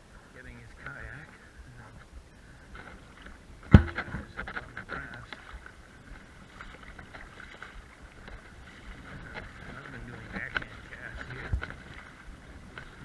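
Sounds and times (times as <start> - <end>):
legs wading splashing: 2.4 - 13.0.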